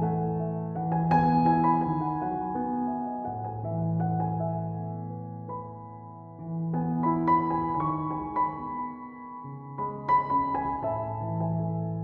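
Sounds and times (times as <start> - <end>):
soft keyboard music: 0.0 - 12.0.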